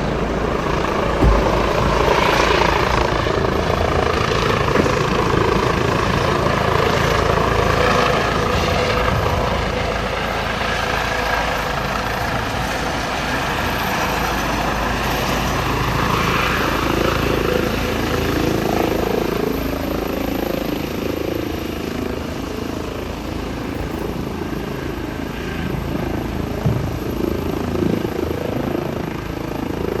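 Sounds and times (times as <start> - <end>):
helicopter flying: 0.0 - 30.0.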